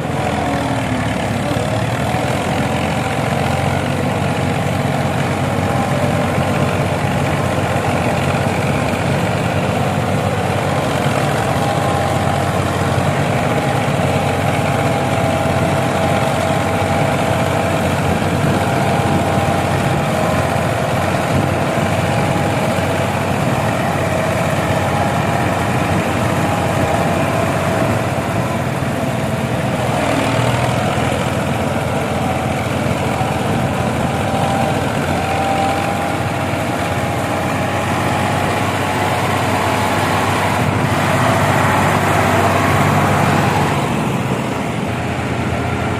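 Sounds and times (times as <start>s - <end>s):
tractor engine droning: 0.0s - 45.9s.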